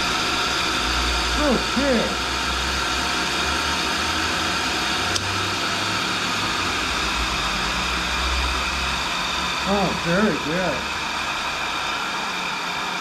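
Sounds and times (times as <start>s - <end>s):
grinder machine hum and hiss: 0.0s - 13.0s.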